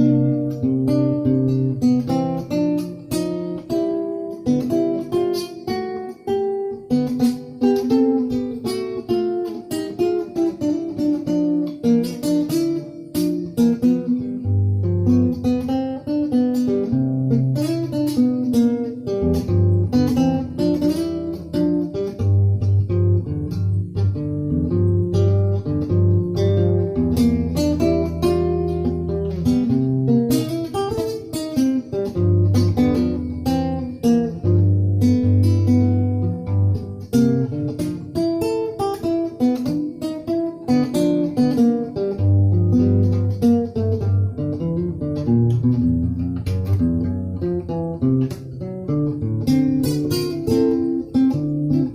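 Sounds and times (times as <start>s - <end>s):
acoustic guitar music: 0.0s - 51.9s.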